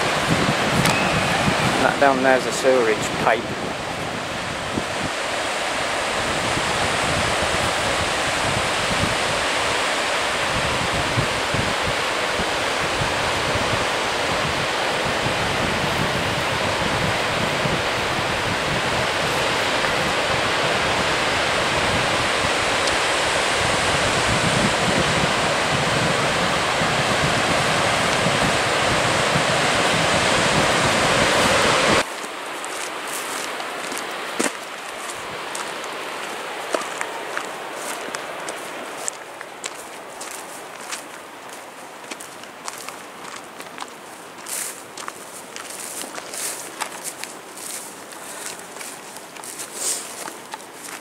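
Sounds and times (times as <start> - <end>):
sea surf on rocky shore: 0.0 - 51.0
wind gusting on microphone: 0.0 - 51.0.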